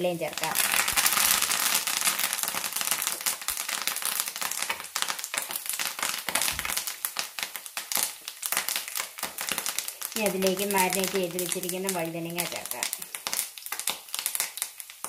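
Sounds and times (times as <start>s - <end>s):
leaves and garlic sizzling in oil: 0.0s - 15.0s.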